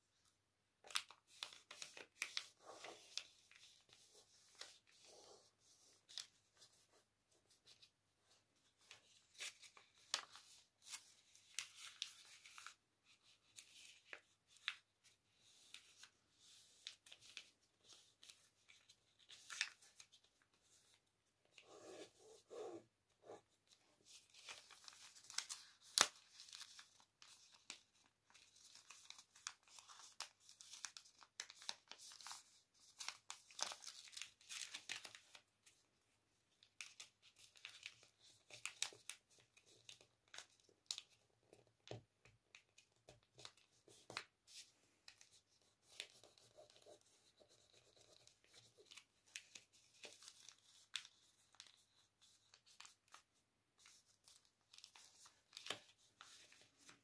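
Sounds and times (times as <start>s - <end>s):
paper rustling and crinkling: 0.8s - 35.8s, 36.6s - 57.0s.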